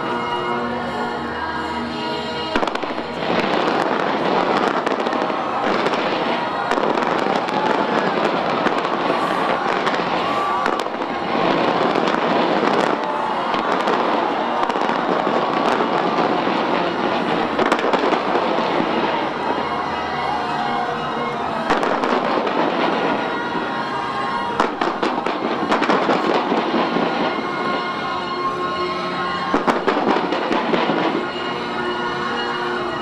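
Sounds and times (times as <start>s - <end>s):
fireworks crackling and popping: 2.5s - 20.8s, 21.6s - 28.4s, 29.3s - 31.6s.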